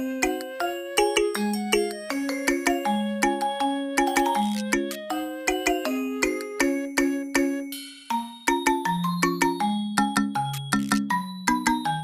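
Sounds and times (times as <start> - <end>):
bouncy bell-like music with beat: 0.0 - 12.0.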